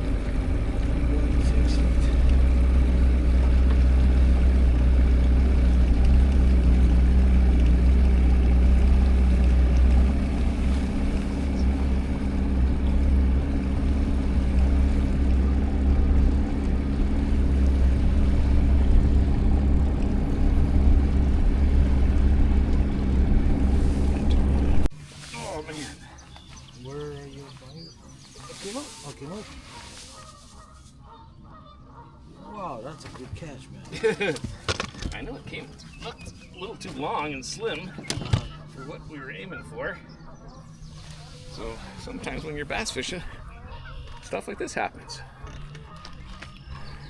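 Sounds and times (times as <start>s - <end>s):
outboard motor droning: 0.0s - 47.0s.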